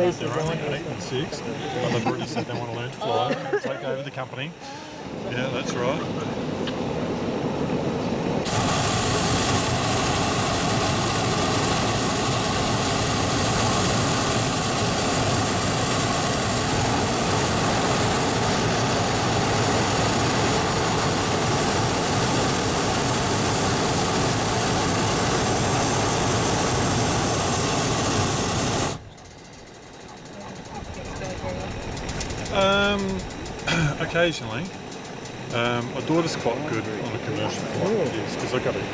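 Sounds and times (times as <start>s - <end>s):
propane burner firing: 0.0s - 3.2s, 3.8s - 38.9s.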